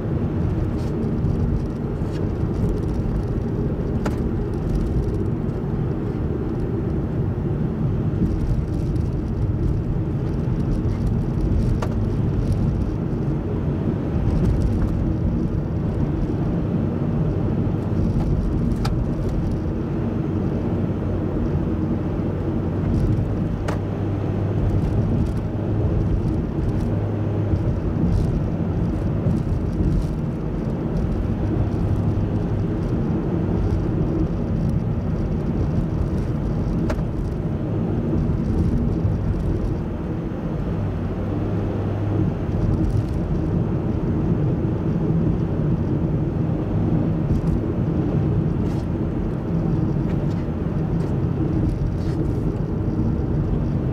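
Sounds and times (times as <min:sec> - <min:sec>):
car engine hum: 0:00.0 - 0:53.9
tyre and road rumble: 0:00.0 - 0:53.9.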